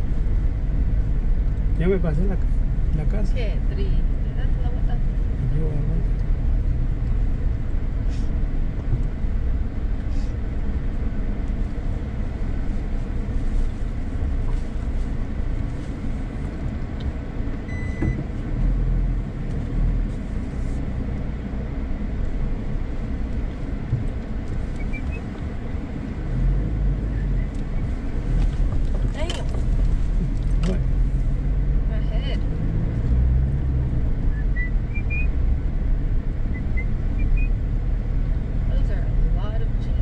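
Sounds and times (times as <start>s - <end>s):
car engine and tyres rumbling: 0.0s - 40.0s.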